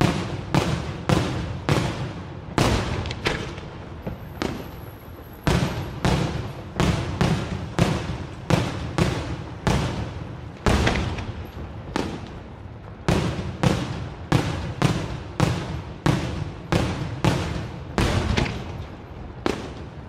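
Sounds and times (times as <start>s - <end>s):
fireworks bangs with echo: 0.0s - 20.0s.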